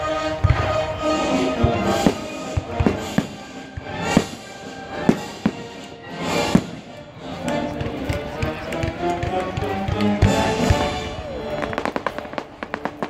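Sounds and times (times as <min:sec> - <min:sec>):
orchestral music: 0:00.0 - 0:13.0
fireworks bursting with sharp bangs: 0:00.3 - 0:13.0.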